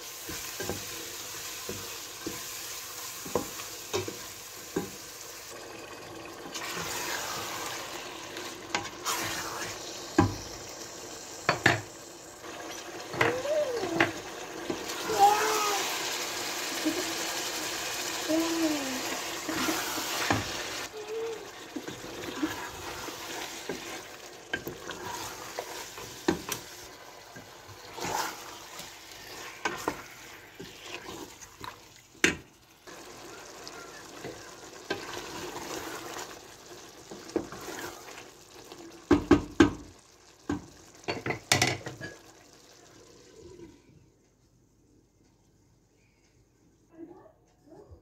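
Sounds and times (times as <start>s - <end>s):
liver sizzling in a pot: 0.0s - 43.7s.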